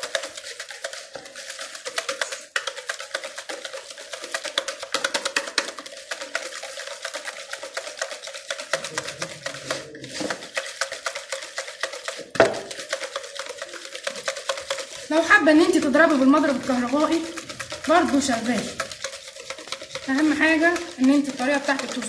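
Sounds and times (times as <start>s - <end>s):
utensil clicking against bowl: 0.0s - 22.0s.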